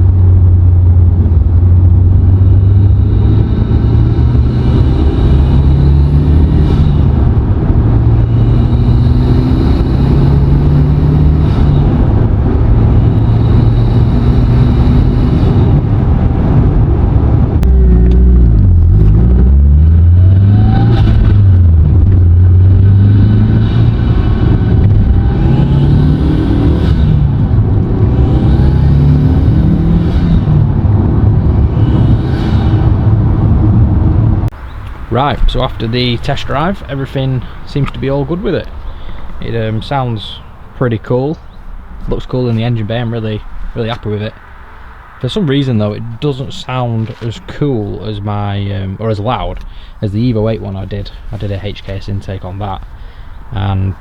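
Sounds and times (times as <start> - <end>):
car engine revving through gears: 0.0 - 45.4.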